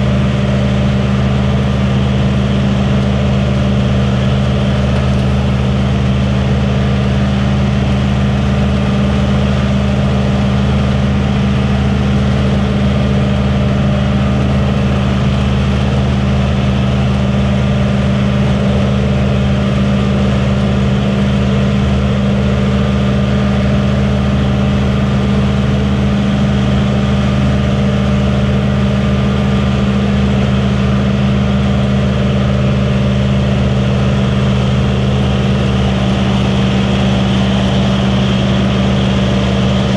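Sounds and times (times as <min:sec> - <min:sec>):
combine engine droning: 0:00.0 - 0:39.9
machinery hum: 0:00.0 - 0:39.9.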